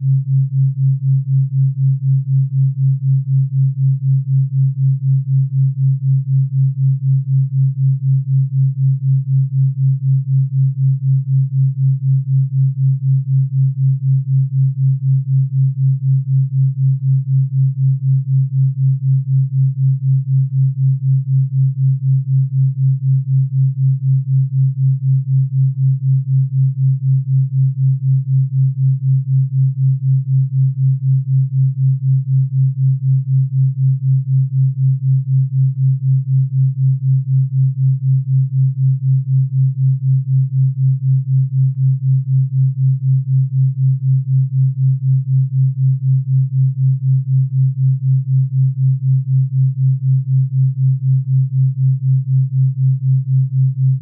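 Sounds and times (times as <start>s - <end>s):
pulsing low hum tone: 0.0s - 54.0s.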